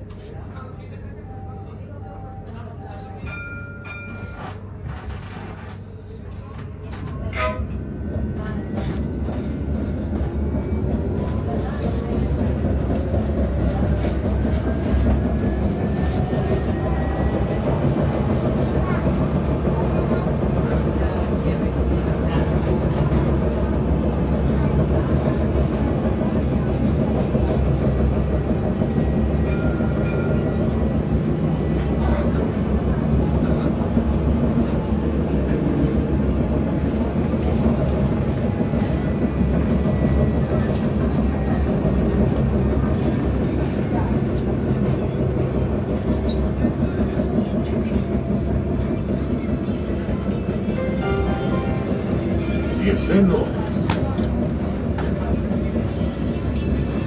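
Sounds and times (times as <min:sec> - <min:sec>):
tram wheels rumbling on rails: 0:00.0 - 0:57.0.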